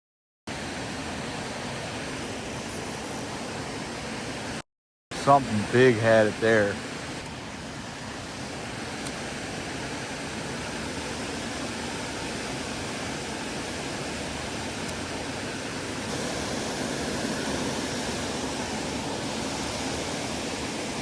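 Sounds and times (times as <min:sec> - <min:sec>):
creek water rushing: 0:00.5 - 0:21.0.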